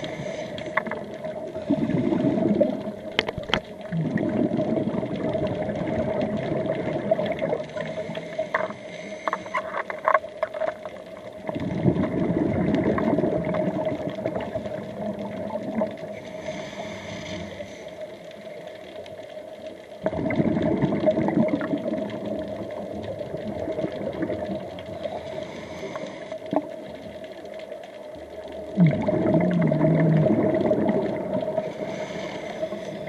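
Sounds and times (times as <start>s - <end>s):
bubbles gurgling underwater: 0.0s - 8.7s, 9.6s - 16.2s, 20.0s - 27.2s, 28.3s - 33.0s.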